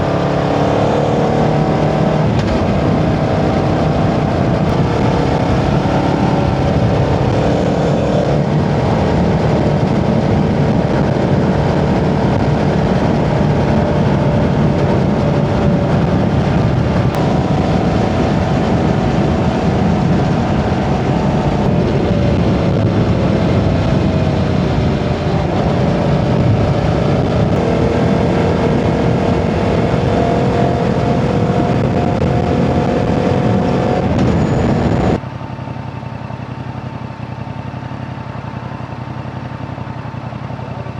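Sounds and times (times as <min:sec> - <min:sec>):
heavy wind noise: 0:00.0 - 0:35.2
motorcycle engine cruising: 0:00.0 - 0:40.9
road noise: 0:00.0 - 0:40.9.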